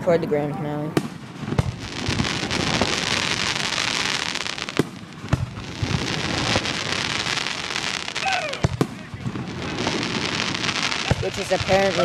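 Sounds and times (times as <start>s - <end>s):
fireworks crackling: 0.1s - 12.0s
firework shells bursting: 0.9s - 12.0s.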